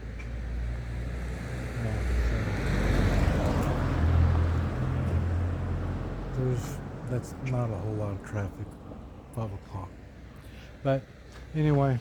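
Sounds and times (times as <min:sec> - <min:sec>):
vehicle passing on road: 0:00.0 - 0:10.4.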